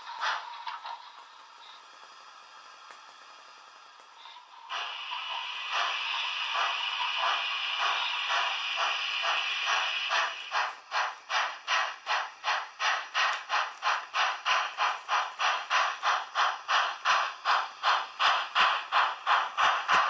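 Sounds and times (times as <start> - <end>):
steam locomotive hiss and chuffs: 0.0 - 20.0.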